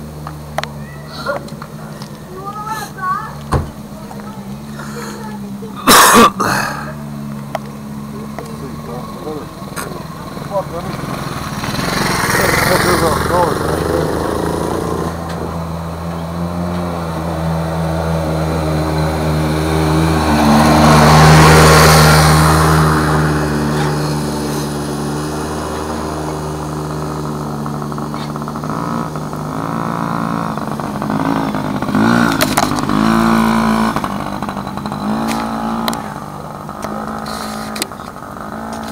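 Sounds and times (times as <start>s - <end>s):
dirt bike engine passing: 0.0s - 38.9s.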